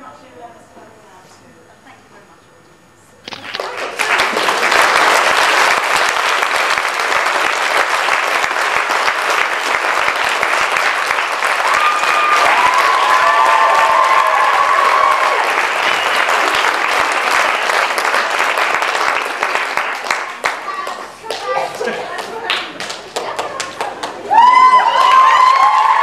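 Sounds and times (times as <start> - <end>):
audience applauding: 3.3 - 26.0.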